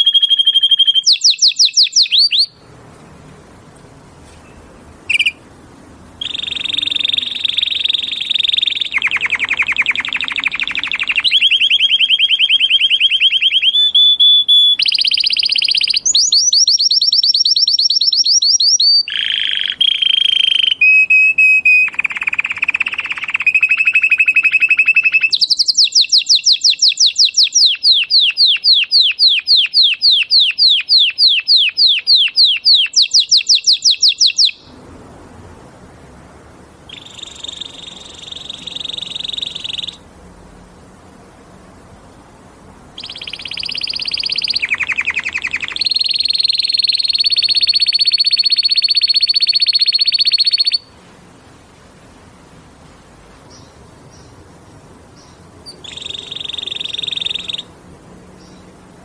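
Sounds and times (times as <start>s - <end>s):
canary singing trills: 0.0s - 2.7s, 4.2s - 34.8s, 36.8s - 40.1s, 42.8s - 50.9s, 53.4s - 59.0s
canary chirp: 0.0s - 2.8s, 4.2s - 34.8s, 36.8s - 40.1s, 42.9s - 50.9s, 53.4s - 59.0s.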